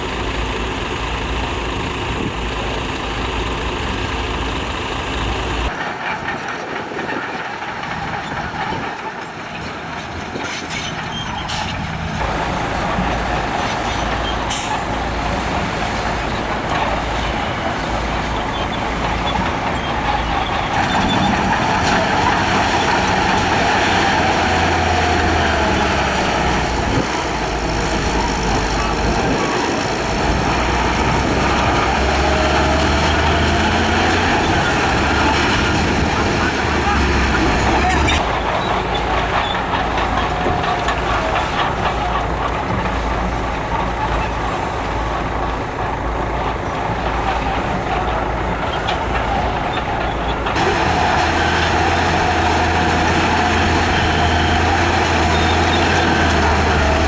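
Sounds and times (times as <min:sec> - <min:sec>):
heavy diesel machinery engines: 0:00.0 - 0:57.0.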